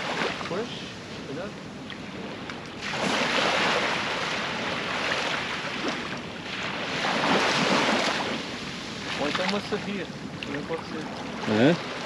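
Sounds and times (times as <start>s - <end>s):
waves washing up a beach: 0.0s - 12.0s.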